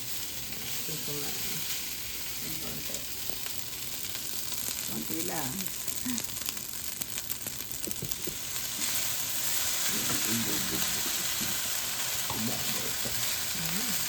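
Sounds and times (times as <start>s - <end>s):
fried rice sizzling in oil: 0.0s - 14.0s
oil crackles: 0.0s - 14.0s.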